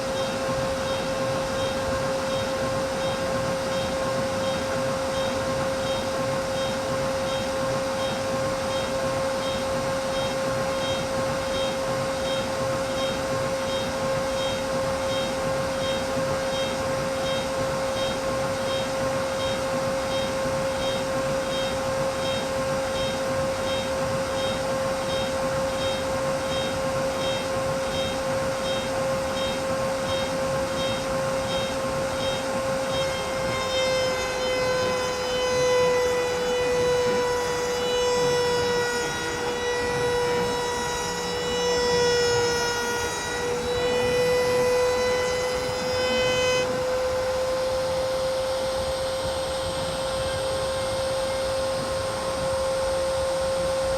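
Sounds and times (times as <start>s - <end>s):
faint regular pulsing: 0.0s - 47.5s
cnc machine motor whine: 0.0s - 53.9s.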